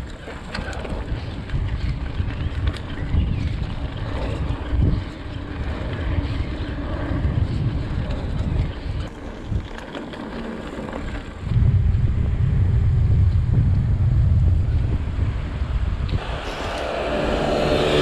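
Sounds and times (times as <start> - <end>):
bike rattling over dirt trail: 0.0 - 18.0
wind buffeting microphone: 0.0 - 18.0.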